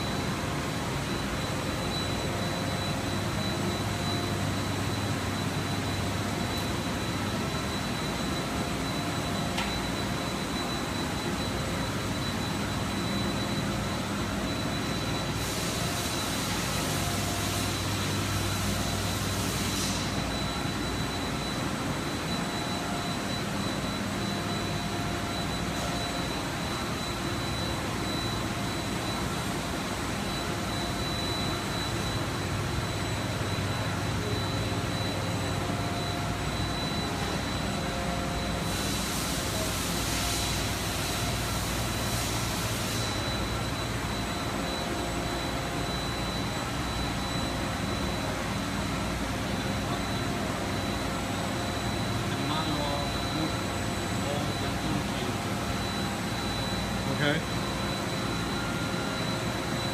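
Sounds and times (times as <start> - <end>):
machinery humming with high whine: 0.0 - 59.9.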